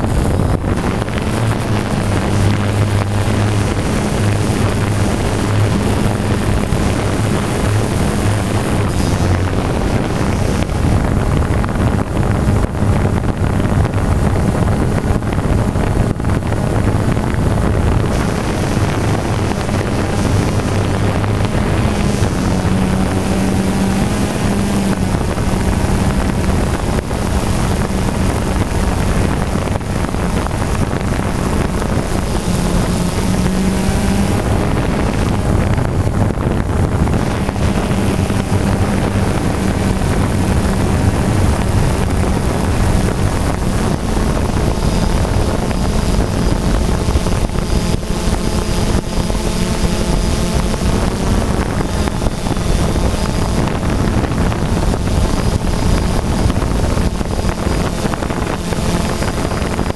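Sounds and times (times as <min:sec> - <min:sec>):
drone propellers humming: 0:00.0 - 0:59.9
wind rushing over microphone: 0:00.0 - 0:59.9.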